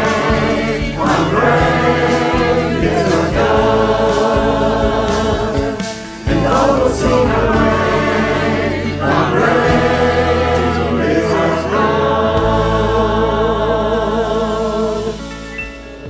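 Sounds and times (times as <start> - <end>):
choir singing in parts: 0.0 - 15.5
low accompaniment: 0.0 - 16.0.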